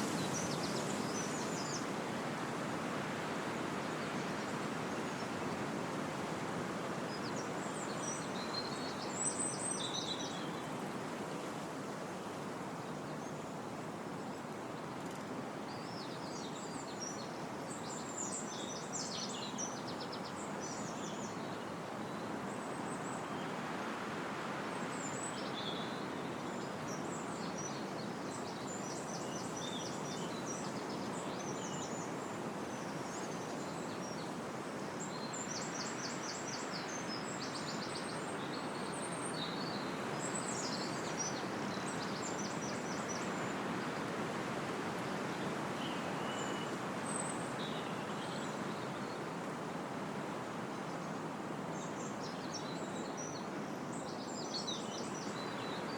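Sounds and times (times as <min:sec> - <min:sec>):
wind rushing through trees: 0:00.0 - 0:14.8, 0:15.4 - 0:55.9.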